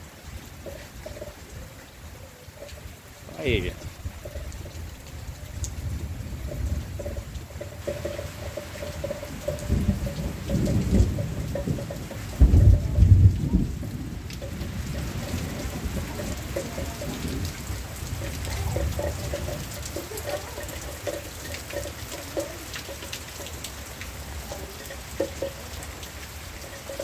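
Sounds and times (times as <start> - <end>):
drips and taps: 0.0 - 27.0
heavy rain: 0.0 - 27.0
thunder rumbling: 2.8 - 25.9.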